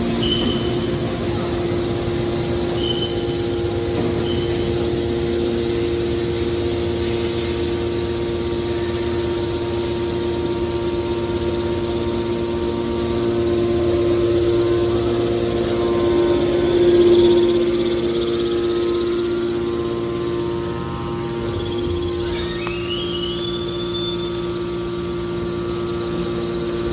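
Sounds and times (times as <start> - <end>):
hydraulic power unit humming: 0.0 - 26.9.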